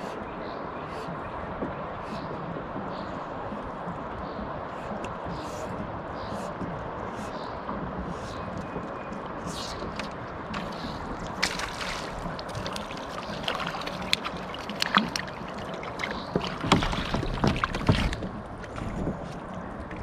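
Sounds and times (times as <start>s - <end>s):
water wash: 2.6s - 19.9s.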